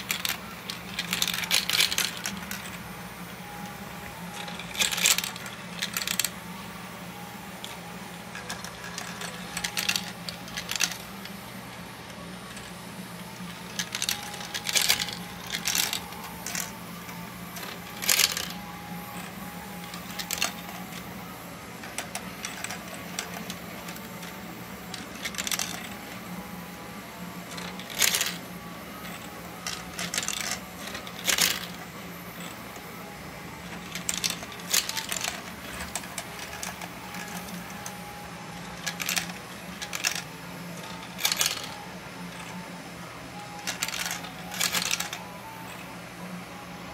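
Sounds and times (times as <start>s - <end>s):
marbles clicking and clattering: 0.0s - 6.4s, 7.6s - 12.7s, 13.4s - 16.8s, 17.5s - 21.2s, 21.8s - 26.3s, 27.4s - 31.8s, 32.4s - 42.6s, 43.4s - 45.8s
low electric motor hum: 0.0s - 46.9s.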